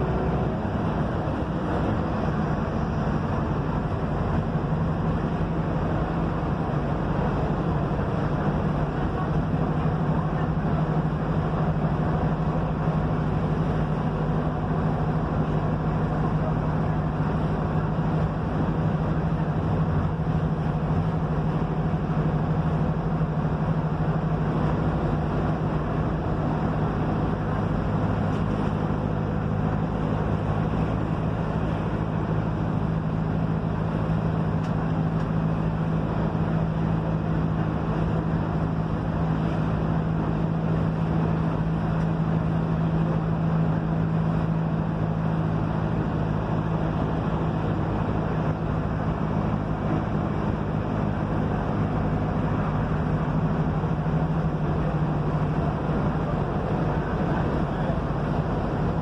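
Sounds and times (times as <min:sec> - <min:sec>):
bus diesel engine running: 0:00.0 - 0:59.0
road and tyre noise: 0:00.0 - 0:59.0.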